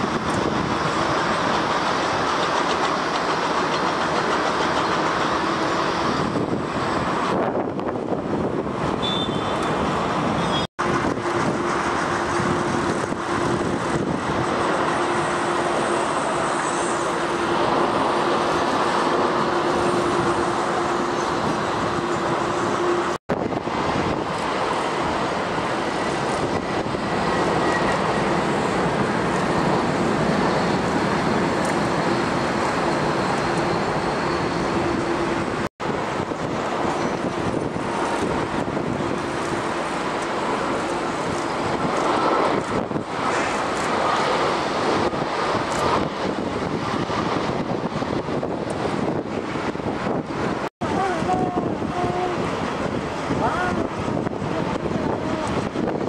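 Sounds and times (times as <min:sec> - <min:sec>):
distant jet engines and rolling: 0:00.0 - 0:56.0.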